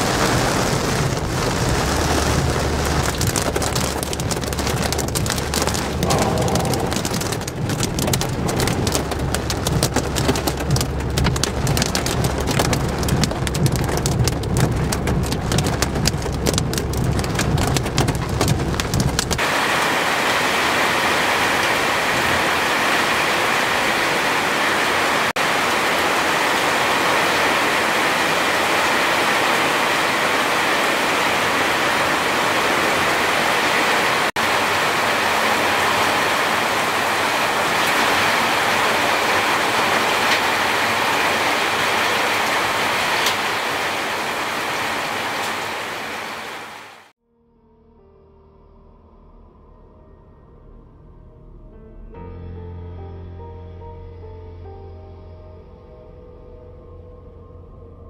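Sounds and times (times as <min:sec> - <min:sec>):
heavy rain pouring: 0:00.0 - 0:47.1.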